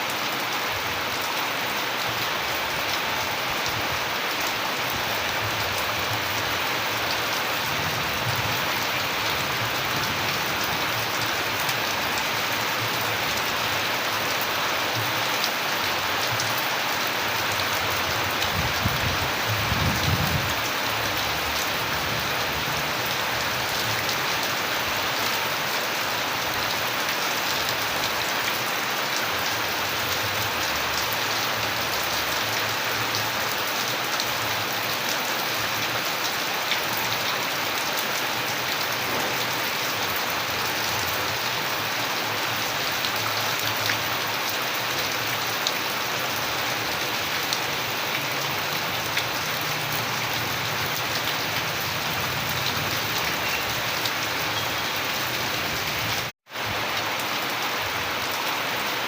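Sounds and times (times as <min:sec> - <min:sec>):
rain pattering: 0:00.1 - 0:59.0.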